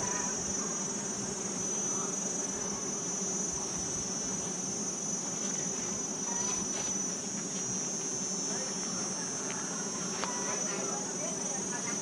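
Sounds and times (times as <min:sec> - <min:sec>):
high trill of insects: 0:00.0 - 0:12.0
honeybees buzzing: 0:00.0 - 0:12.0.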